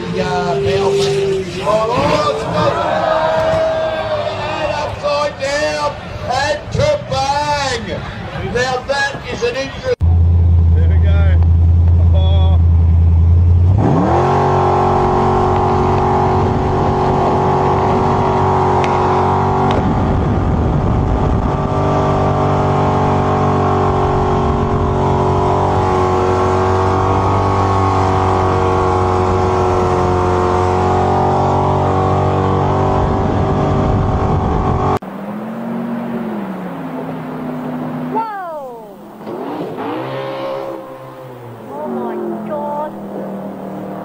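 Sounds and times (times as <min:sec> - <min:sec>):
boat engine revving: 0:00.0 - 0:05.0, 0:10.2 - 0:44.0.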